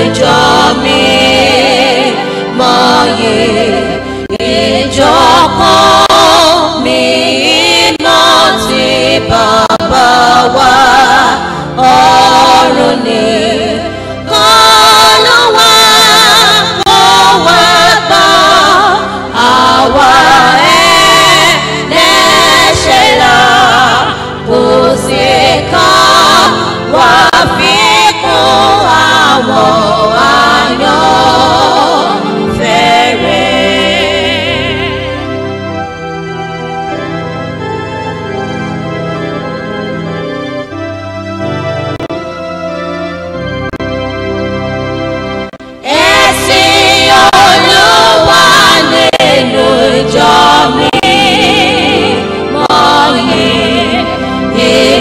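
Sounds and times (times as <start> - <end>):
choir singing gospel: 0.0 - 42.3, 45.5 - 55.0
instrumental backing: 0.0 - 55.0.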